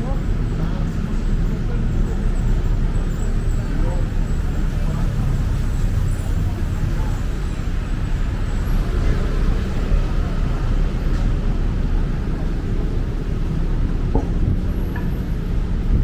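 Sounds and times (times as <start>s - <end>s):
faint voices: 0.0s - 15.2s
road traffic rumble: 0.0s - 16.0s
cars passing: 2.4s - 16.0s.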